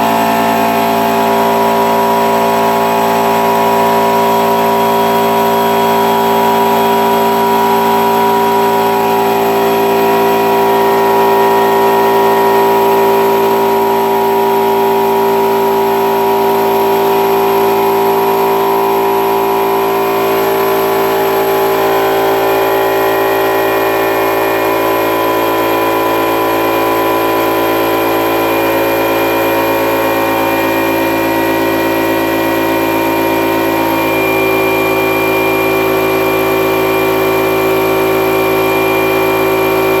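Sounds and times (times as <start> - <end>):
air compressor running: 0.0 - 40.0.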